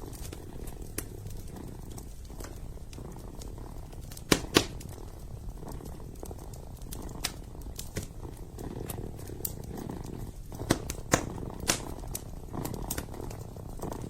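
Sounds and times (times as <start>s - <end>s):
kitten purring: 0.0s - 14.0s
wood fire crackling: 0.0s - 14.0s.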